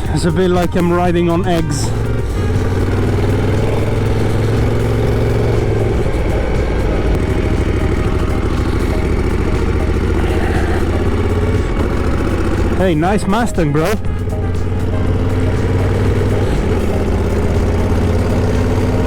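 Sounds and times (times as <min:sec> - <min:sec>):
motorcycle engine running: 0:00.0 - 0:19.0
wind and road noise: 0:00.0 - 0:19.0.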